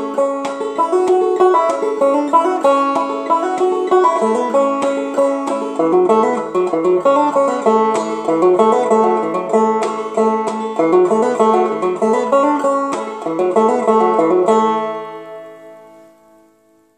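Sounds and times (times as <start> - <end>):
banjo plucking and strumming: 0.0 - 16.9.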